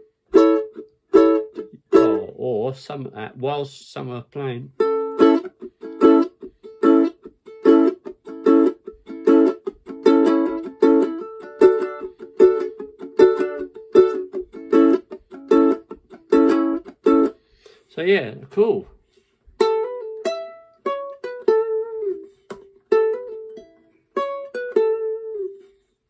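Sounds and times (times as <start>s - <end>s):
ukulele chords: 0.0s - 2.7s, 4.1s - 17.7s, 18.4s - 25.9s.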